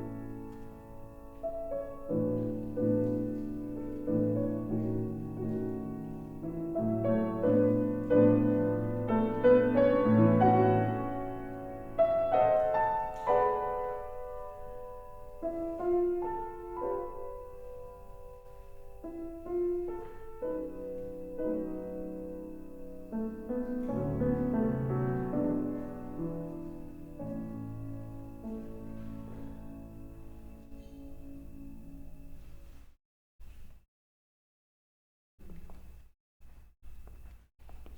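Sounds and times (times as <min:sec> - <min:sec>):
slow piano piece: 0:00.0 - 0:32.9.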